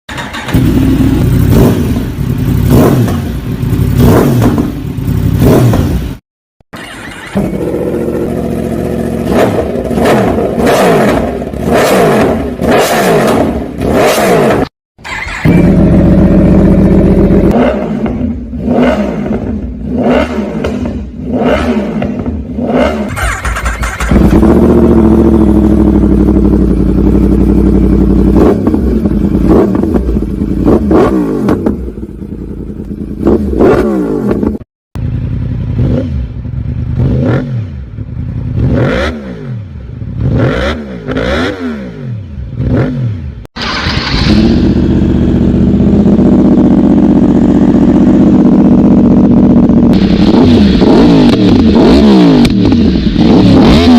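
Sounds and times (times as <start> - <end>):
motorcycle engine revving: 0.1 - 6.2, 6.8 - 53.9.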